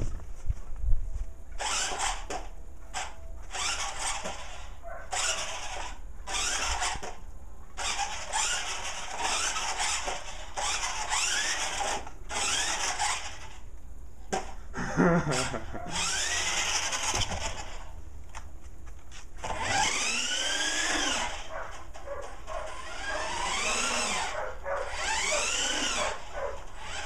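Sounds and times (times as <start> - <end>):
toy car motor whirring: 1.6 - 7.2, 7.8 - 13.7, 15.3 - 17.9, 19.4 - 27.0.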